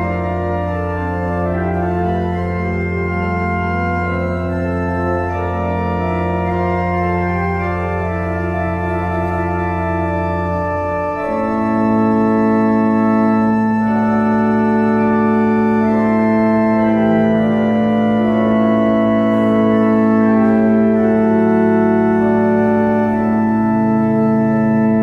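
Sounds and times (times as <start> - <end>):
slow sustained chords music: 0.0 - 25.0.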